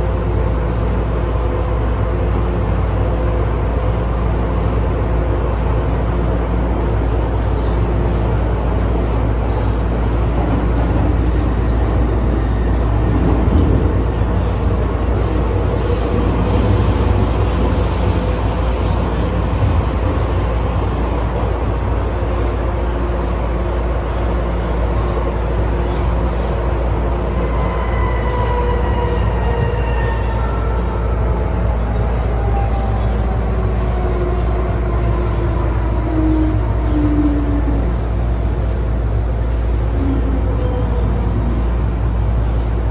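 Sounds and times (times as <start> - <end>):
train rumbling in tunnel: 0.0 - 42.9.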